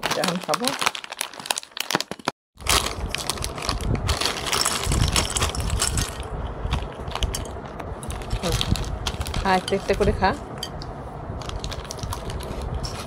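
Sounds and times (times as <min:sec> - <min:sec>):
plastic packet crackling: 0:00.0 - 0:10.4, 0:11.4 - 0:13.0.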